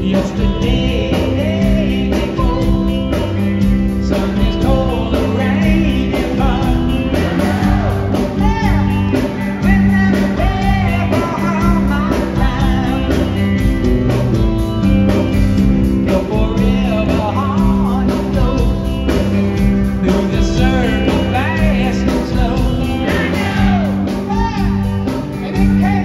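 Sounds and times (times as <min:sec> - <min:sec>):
man singing into microphone: 0:00.0 - 0:03.2, 0:04.0 - 0:13.4, 0:16.0 - 0:26.0
rock band playing: 0:00.0 - 0:26.0.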